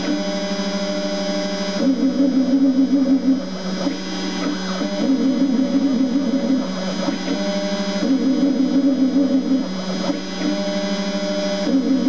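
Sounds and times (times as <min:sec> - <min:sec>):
milling spindle buzzing: 0:00.0 - 0:12.0.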